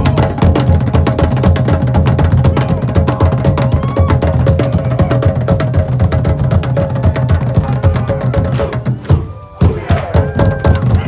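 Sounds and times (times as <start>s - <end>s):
deep skin drum beats: 0.0s - 11.0s.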